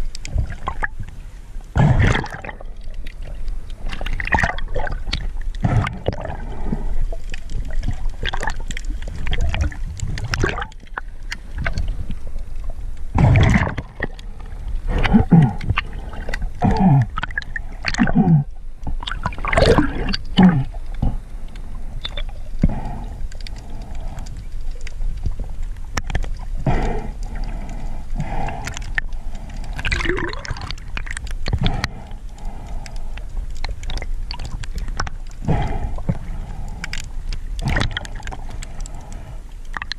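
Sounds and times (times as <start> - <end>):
underwater water gurgling: 0.0 - 39.9.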